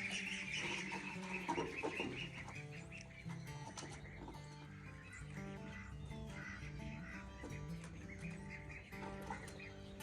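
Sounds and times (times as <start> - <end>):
bird calls: 0.0 - 10.0
music of held notes: 0.0 - 10.0.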